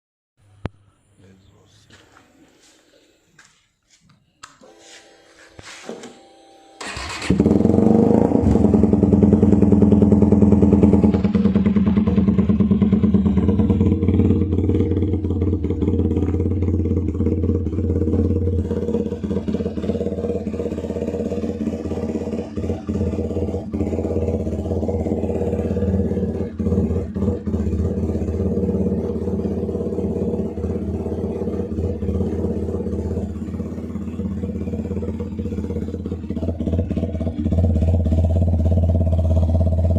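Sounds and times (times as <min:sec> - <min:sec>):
motorcycle engine starting and idling: 0:06.8 - 0:39.9.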